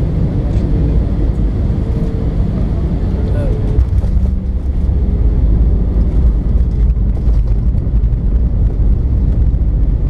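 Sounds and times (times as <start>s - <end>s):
airplane cabin low rumble: 0.0s - 10.0s.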